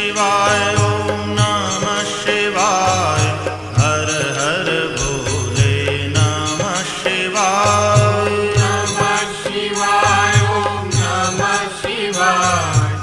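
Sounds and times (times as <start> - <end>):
jingling bells: 0.0 - 13.0
mantra chant over music: 0.0 - 13.0.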